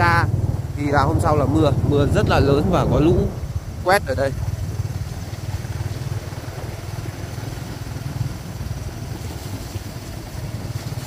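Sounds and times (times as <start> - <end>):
motorbike engine rumbling: 0.0 - 11.0.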